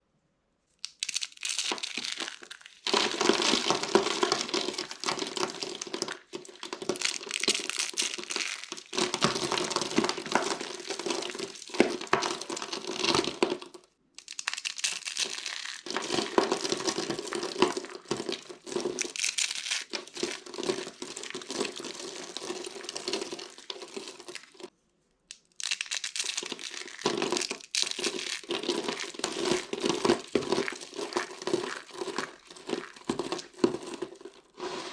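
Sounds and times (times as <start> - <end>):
hard soap crunching: 0.8 - 24.7, 25.3 - 34.9.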